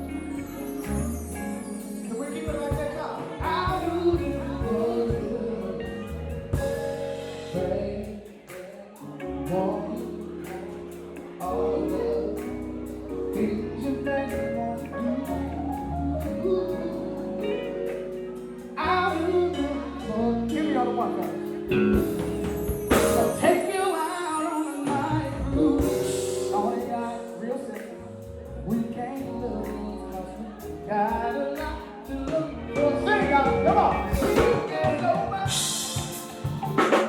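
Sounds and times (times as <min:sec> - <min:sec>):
live soul band playing: 0:00.0 - 0:37.0
person singing: 0:00.0 - 0:37.0.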